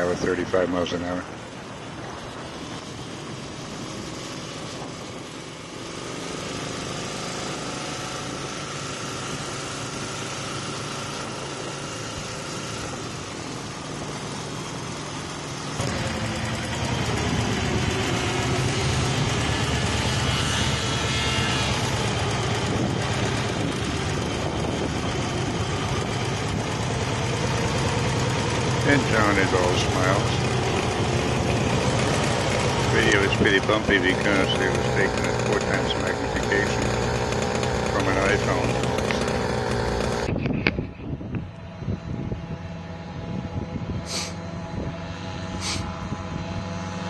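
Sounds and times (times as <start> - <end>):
steady rushing noise: 0.0 - 42.6
motorcycle engine running: 0.0 - 47.0
motorglider engine hum: 0.0 - 47.0.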